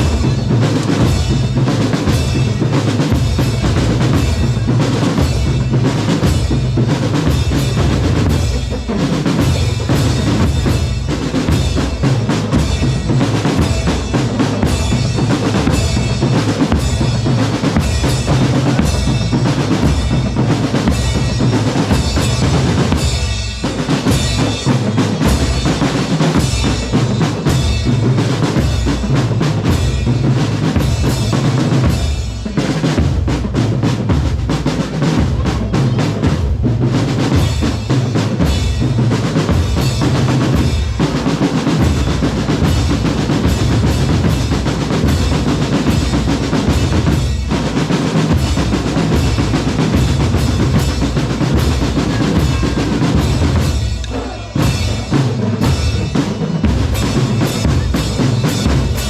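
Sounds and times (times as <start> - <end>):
bass drums: 0.0 - 59.0
snare drums: 0.0 - 59.0.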